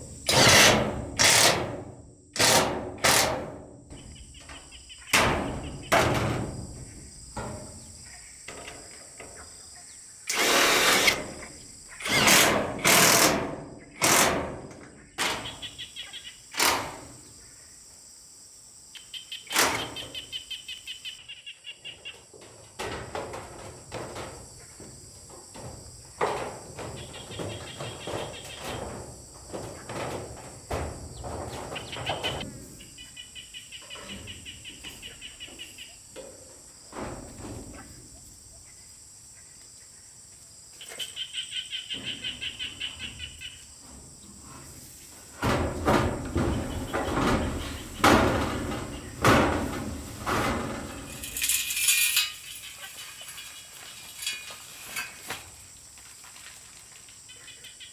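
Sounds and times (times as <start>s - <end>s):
knocks and thuds of manual work: 0.0s - 17.5s, 19.5s - 20.5s, 22.2s - 33.1s, 33.9s - 38.5s, 41.9s - 56.4s.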